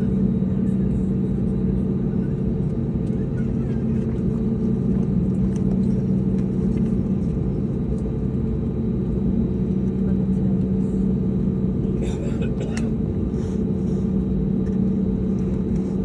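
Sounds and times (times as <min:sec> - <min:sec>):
airliner engine rumble: 0:00.0 - 0:16.0.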